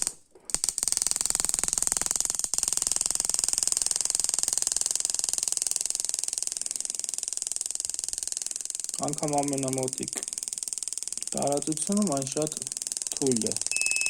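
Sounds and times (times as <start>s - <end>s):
rapid snapping spark clicks: 0.0s - 13.7s.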